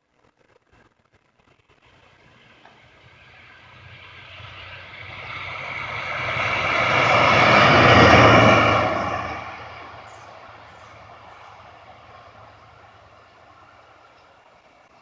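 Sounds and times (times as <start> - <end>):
train passing: 1.8 - 15.0.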